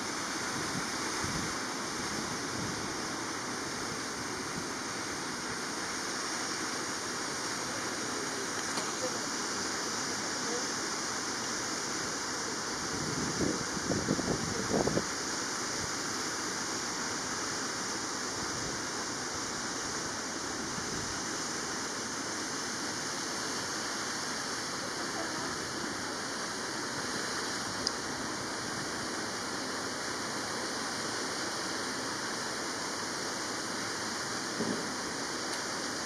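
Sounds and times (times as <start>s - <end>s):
falling water rushing: 0.0s - 36.0s.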